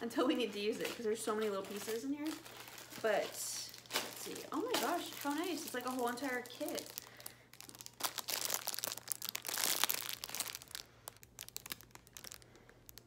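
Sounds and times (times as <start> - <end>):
plastic wrap crinkling: 0.2 - 13.0.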